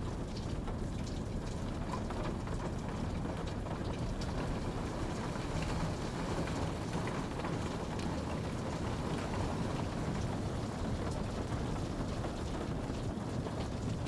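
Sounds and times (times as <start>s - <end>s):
small raindrop ticks: 0.0s - 14.0s
steady rain falling: 0.0s - 14.0s.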